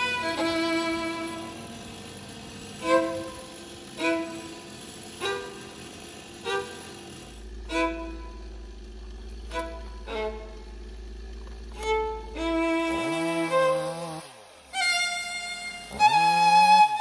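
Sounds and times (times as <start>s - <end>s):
solo violin: 0.0s - 1.8s, 2.8s - 7.0s, 7.6s - 8.7s, 9.4s - 10.8s, 11.7s - 17.0s.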